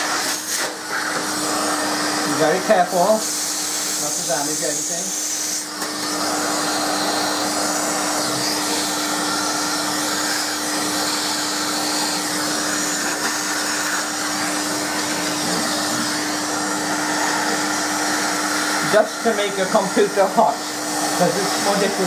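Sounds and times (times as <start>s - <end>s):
vacuum cleaner humming: 0.0s - 22.0s.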